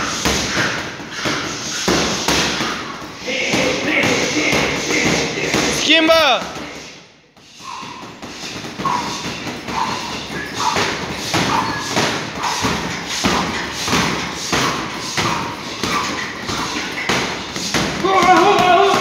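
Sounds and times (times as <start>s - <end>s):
gloves hitting punching bags: 0.0s - 19.0s.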